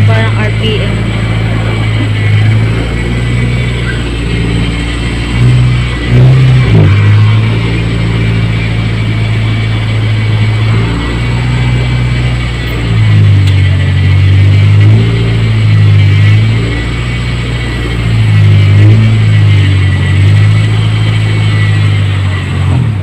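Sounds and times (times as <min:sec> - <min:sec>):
car engine running and revving: 0:00.0 - 0:23.0.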